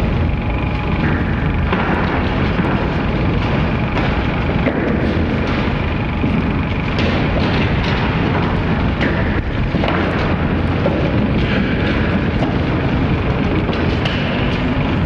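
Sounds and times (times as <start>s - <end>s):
loud steady rumbling: 0.0s - 15.0s.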